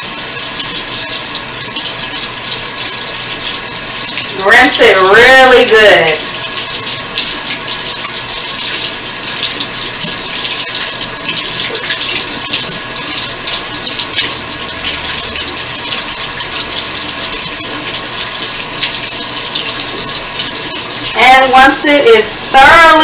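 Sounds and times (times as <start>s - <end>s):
faucet running into sink: 0.0s - 23.0s.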